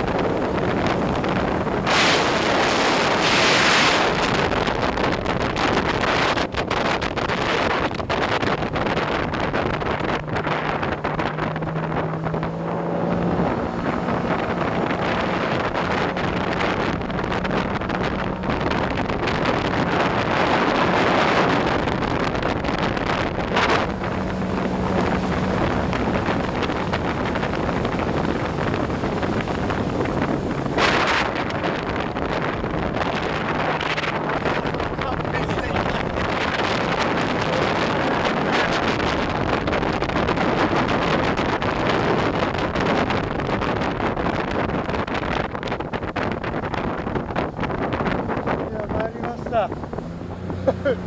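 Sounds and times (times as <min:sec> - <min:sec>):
jet boat engine: 0:00.0 - 0:51.0
rushing water: 0:00.0 - 0:51.0
wind buffeting microphone: 0:00.0 - 0:51.0.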